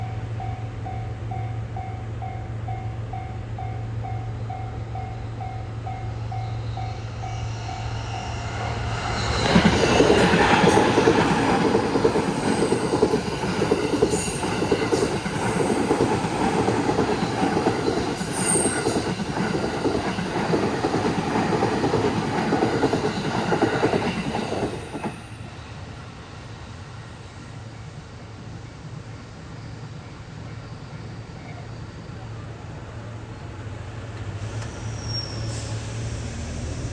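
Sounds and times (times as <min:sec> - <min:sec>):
train wheels running on rails: 0:00.0 - 0:36.9.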